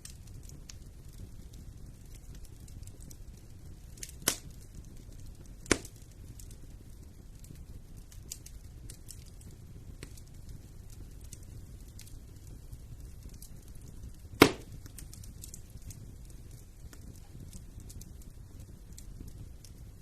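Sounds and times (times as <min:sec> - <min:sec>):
loud sharp pops from fire: 0:00.0 - 0:20.0
wood fire crackling: 0:00.0 - 0:20.0.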